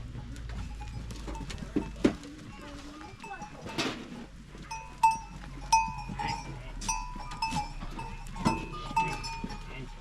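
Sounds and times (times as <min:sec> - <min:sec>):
livestock bells clinking: 0:00.0 - 0:10.0.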